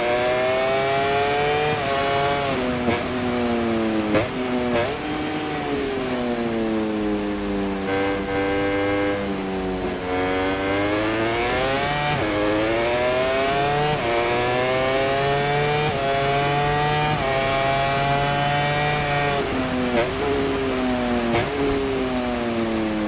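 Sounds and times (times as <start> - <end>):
racing motorcycle engine accelerating: 0.0 - 23.0.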